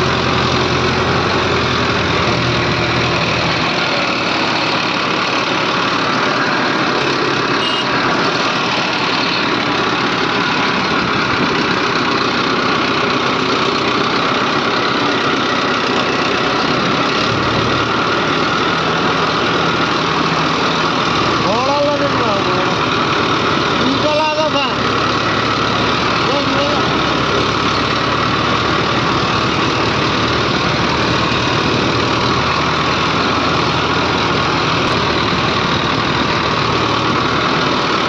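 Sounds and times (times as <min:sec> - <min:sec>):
diesel engines running: 0:00.0 - 0:38.0.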